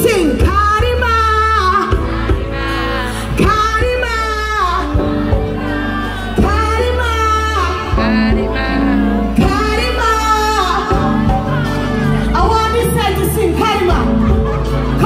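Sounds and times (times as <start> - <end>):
bass-heavy beat: 0.1 - 15.0.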